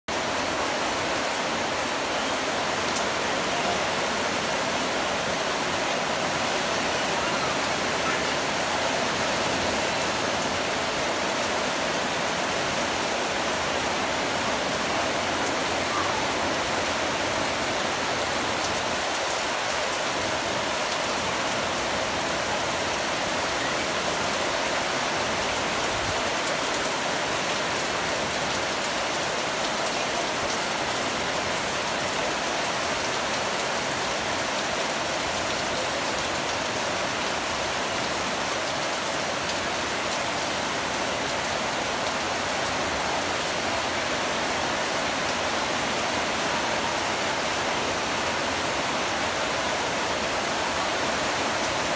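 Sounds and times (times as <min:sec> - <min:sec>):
heavy rain on leaves: 0:00.0 - 0:51.9.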